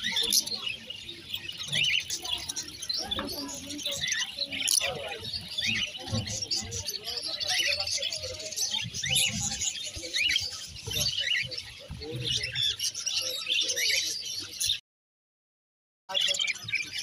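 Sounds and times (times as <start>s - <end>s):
lovebirds chirping: 0.0s - 14.8s
murmur of voices: 0.0s - 14.8s, 16.1s - 17.0s.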